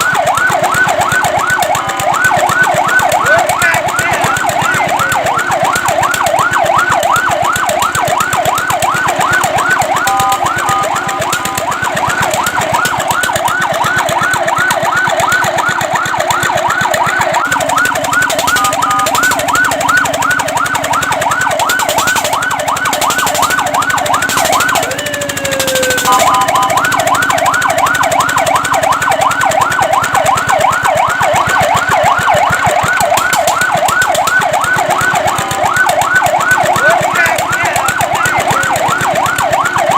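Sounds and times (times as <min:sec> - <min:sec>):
fire truck siren yelp: 0:00.0 - 0:39.9
steady siren tone: 0:00.0 - 0:39.9.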